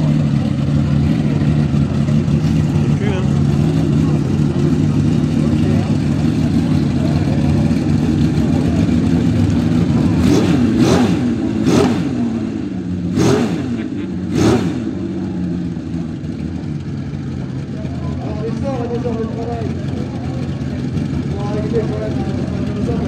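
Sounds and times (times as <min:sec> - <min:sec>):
engine idling and revving: 0:00.0 - 0:23.0.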